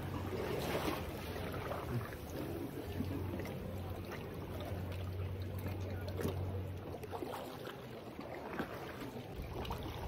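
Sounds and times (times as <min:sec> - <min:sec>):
boat motor humming: 0:00.0 - 0:10.0
water wash: 0:00.0 - 0:10.0.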